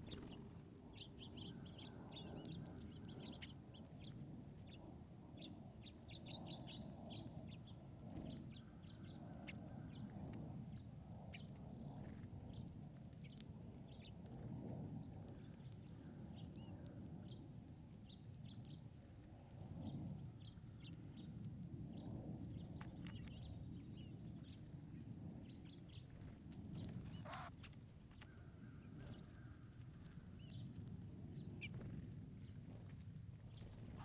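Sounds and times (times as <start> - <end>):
songbirds chipping and tweeting: 0.0 - 34.0.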